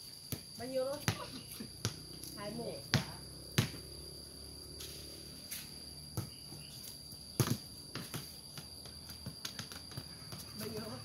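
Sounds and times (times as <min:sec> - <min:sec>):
high insect drone: 0:00.0 - 0:11.0
ball thudding on concrete: 0:00.3 - 0:03.9, 0:04.8 - 0:11.0.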